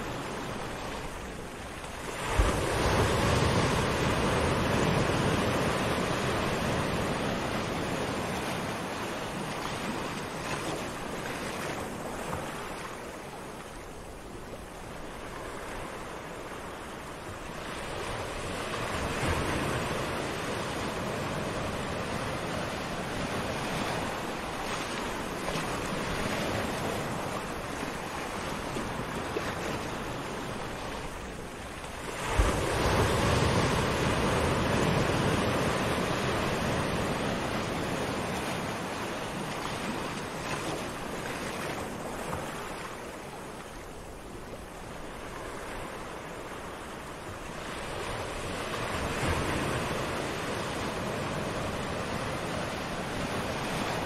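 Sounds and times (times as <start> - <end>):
small waves washing up shore: 0.0 - 54.0.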